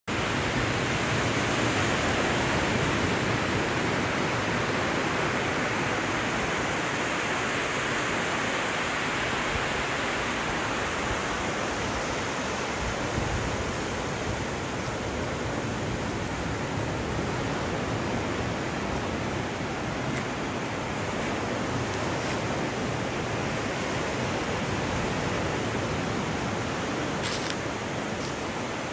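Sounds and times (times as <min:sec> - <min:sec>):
surf washing onto beach: 0:00.2 - 0:28.9.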